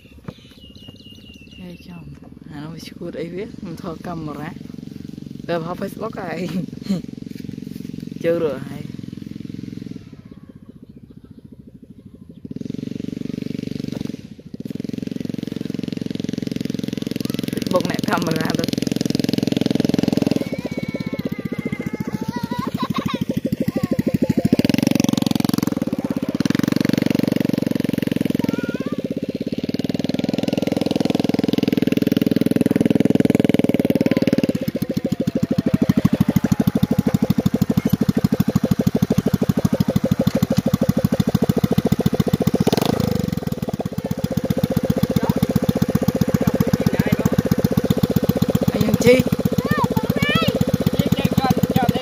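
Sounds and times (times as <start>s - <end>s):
engine blip: 0.0s - 52.0s
motorcycle engine idling: 0.0s - 52.0s
motorcycle engine revving: 0.0s - 52.0s.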